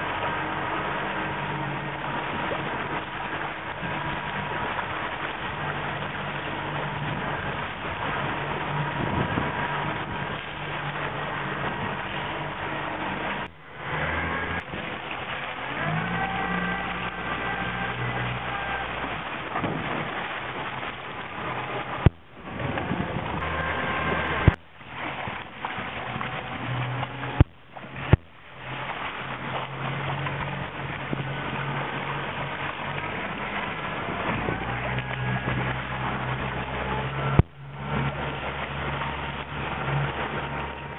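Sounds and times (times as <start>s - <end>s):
motor boat engine running: 0.0s - 40.9s.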